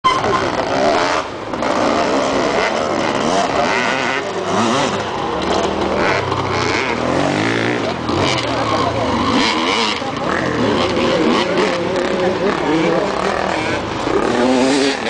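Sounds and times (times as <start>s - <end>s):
dirt bike engine revving: 0.1s - 15.0s.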